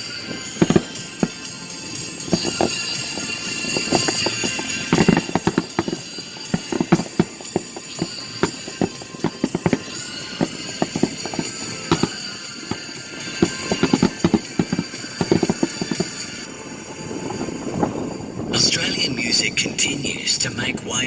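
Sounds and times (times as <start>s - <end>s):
background music: 0.0s - 18.8s
fireworks bursting and crackling: 0.0s - 20.5s.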